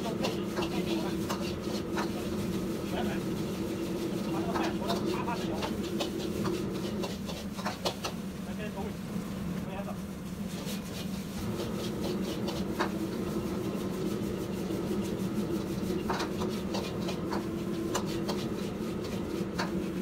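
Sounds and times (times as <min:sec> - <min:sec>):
metal spatula scraping a wok: 0:00.0 - 0:08.0, 0:10.4 - 0:20.0
steady low hum: 0:00.0 - 0:20.0.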